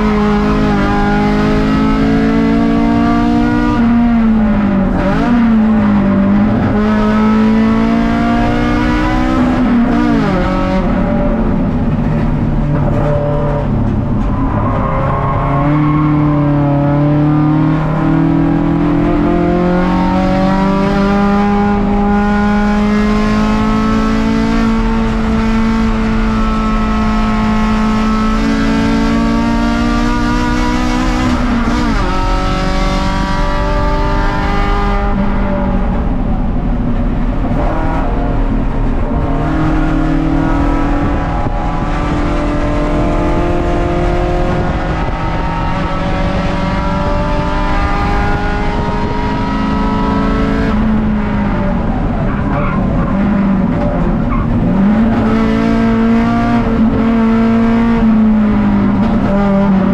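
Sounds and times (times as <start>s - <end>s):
race car engine under load: 0.0s - 59.9s.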